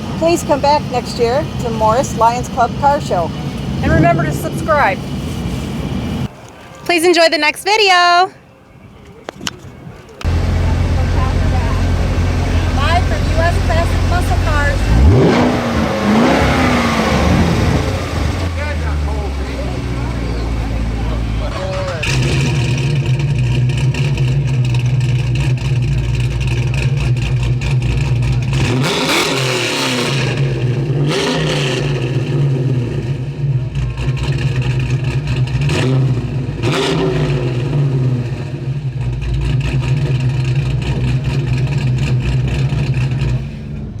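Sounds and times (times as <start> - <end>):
car engine revving: 0.0 - 6.3, 10.2 - 44.0.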